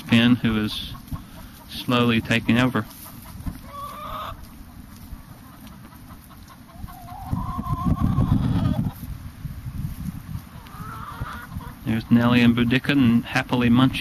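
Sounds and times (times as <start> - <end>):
chickens calling: 0.0 - 14.0.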